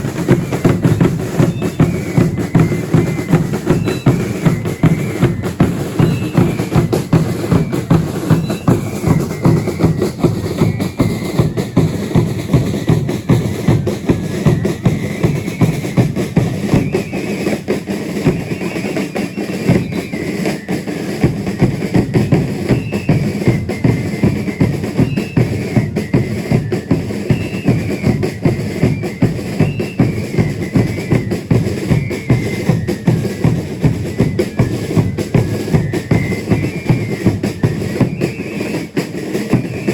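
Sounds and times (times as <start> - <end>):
procession drums beating: 0.0 - 39.9.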